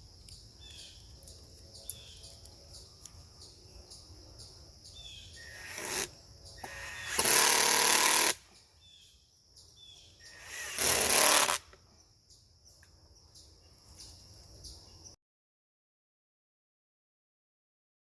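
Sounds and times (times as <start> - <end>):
insects chirring: 0.0 - 15.2.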